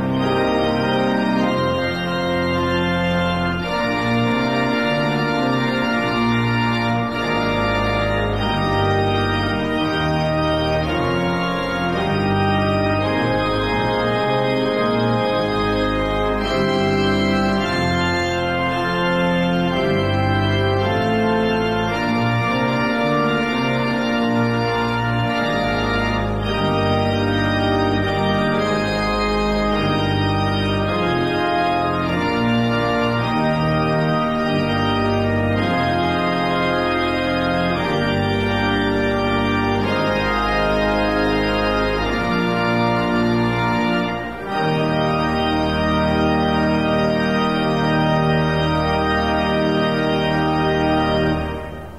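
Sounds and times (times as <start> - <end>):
slow organ chords: 0.0 - 51.9.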